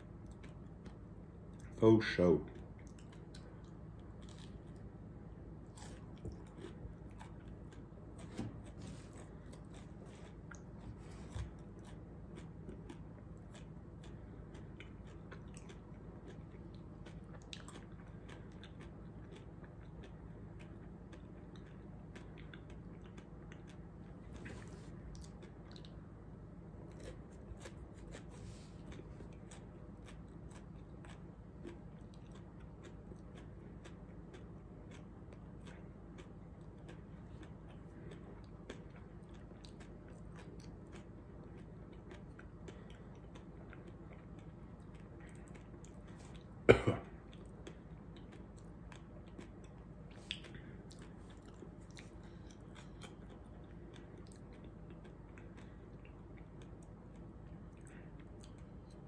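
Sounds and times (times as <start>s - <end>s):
faint chewing and crunching: 0.0s - 59.0s.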